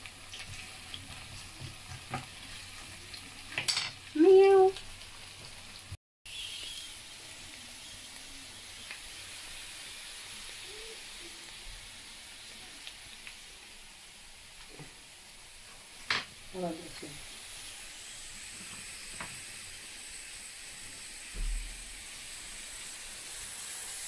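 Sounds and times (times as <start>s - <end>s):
potatoes sizzling in a pan: 0.0s - 24.0s.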